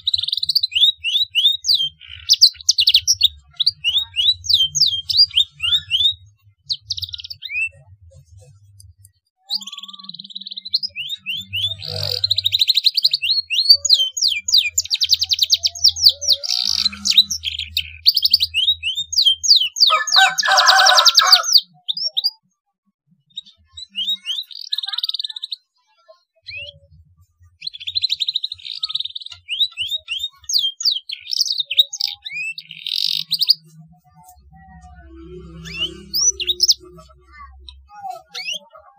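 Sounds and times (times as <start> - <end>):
canary singing trills and whistles: 0.0 - 22.5, 23.2 - 25.8, 26.4 - 38.9.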